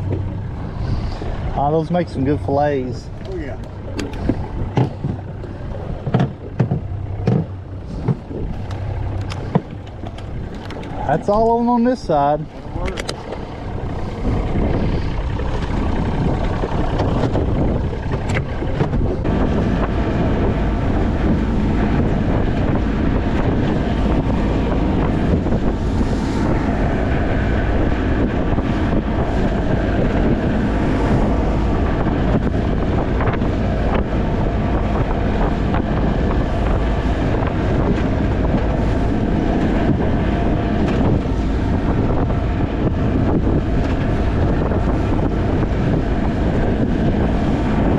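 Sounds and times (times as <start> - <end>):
outboard motor running: 0.0 - 47.9
wind buffeting microphone: 0.0 - 47.9.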